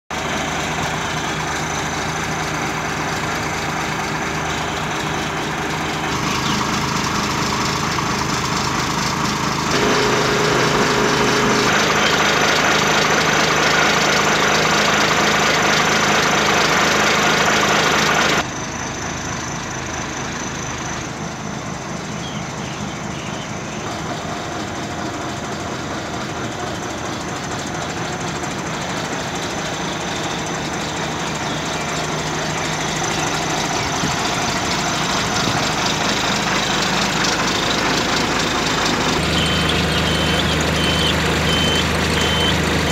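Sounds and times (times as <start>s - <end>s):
diesel truck engine running: 0.1s - 42.9s.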